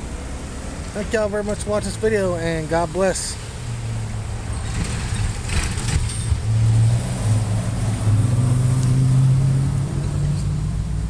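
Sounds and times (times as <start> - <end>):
vehicle engine pulling away: 0.0 - 11.0.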